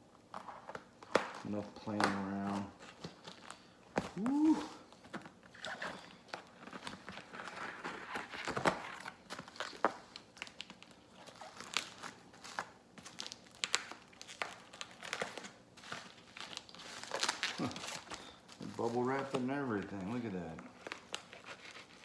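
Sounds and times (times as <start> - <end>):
cardboard and packing crinkling: 0.2 - 22.0.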